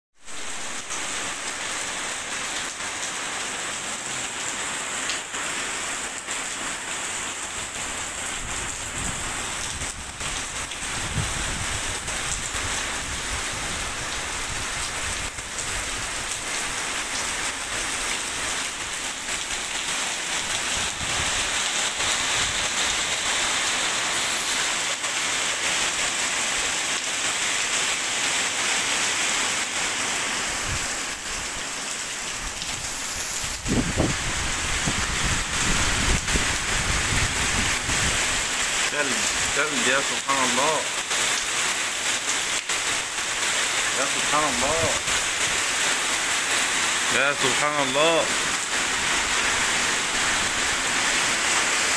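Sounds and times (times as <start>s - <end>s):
heavy rain on pavement: 0.1s - 51.9s.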